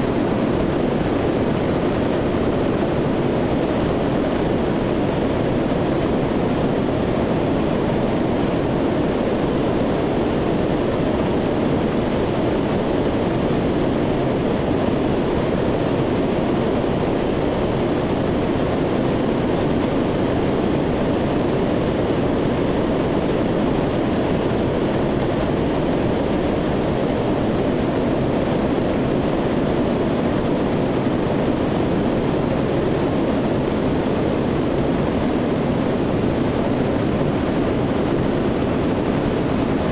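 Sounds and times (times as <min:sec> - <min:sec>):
aircraft engines droning in flight: 0:00.0 - 0:39.9.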